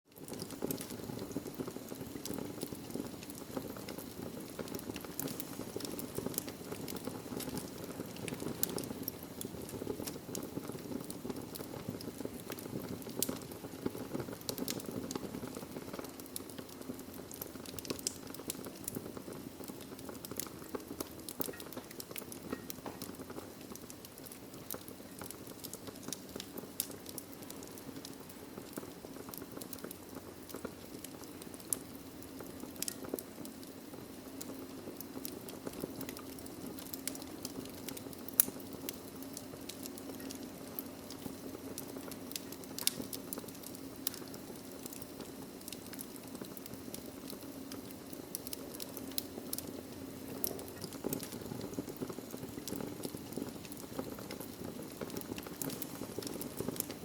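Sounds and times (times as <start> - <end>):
wood crackling and popping: 0.1 - 57.0.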